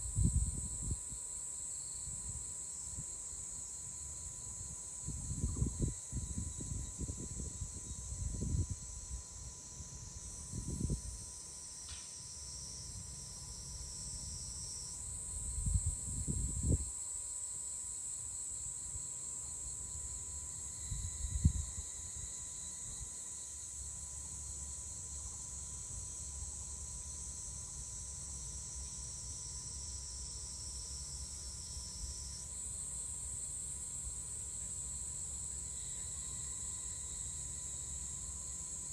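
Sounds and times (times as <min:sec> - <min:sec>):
crickets chorus: 0:00.0 - 0:38.9.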